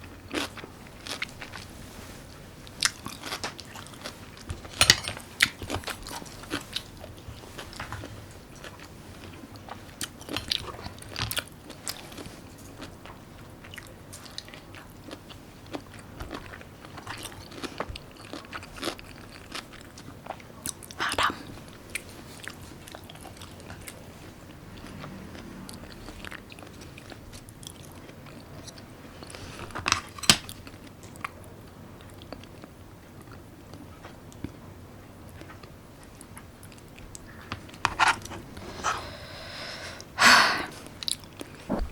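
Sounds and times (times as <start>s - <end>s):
person chewing: 0.0s - 1.7s, 2.6s - 31.4s, 35.3s - 41.9s.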